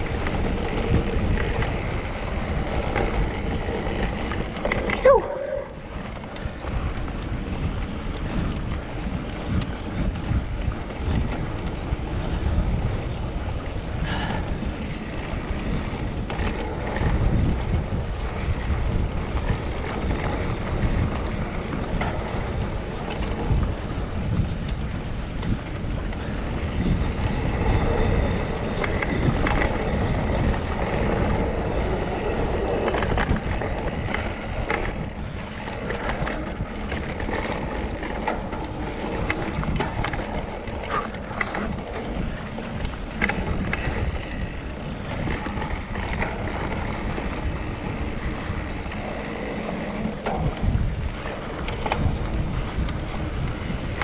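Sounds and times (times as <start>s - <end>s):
bike knocking and rattling: 0.0s - 54.0s
bike tyres on dirt: 0.0s - 54.0s
wind on microphone: 0.0s - 54.0s.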